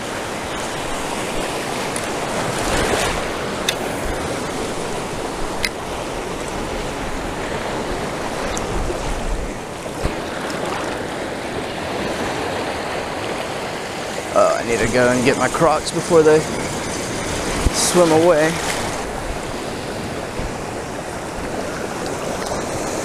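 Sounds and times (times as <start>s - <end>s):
small waves breaking: 0.0s - 23.0s.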